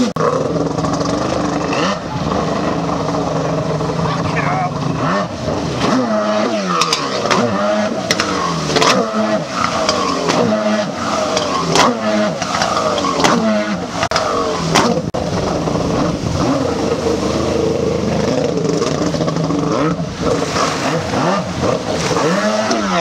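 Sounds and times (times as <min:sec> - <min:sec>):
hull slapping on water: 0:00.0 - 0:23.0
jet ski engine revving: 0:00.0 - 0:23.0.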